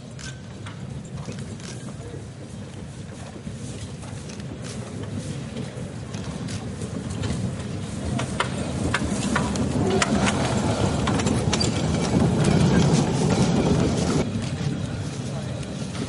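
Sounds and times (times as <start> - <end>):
iron wheels rumbling on rails: 0.0 - 16.0
hoof clops: 0.1 - 14.3.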